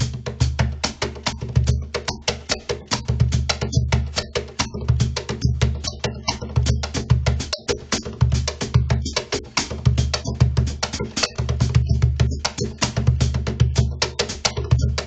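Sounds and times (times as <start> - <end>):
cajon slaps and bass strokes: 0.0 - 15.0.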